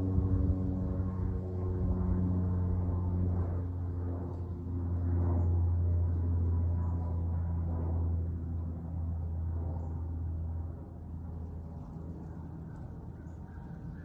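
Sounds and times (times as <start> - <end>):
small aircraft engine drone: 0.0 - 14.0.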